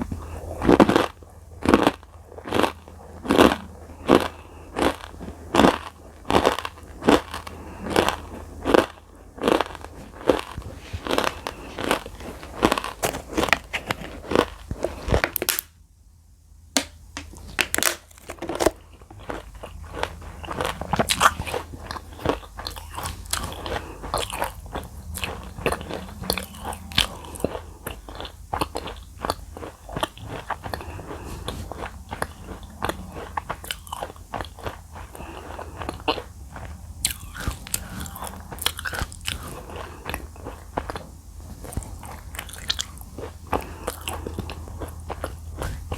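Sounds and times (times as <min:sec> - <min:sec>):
crunchy chewing: 0:00.0 - 0:15.6, 0:17.2 - 0:45.9.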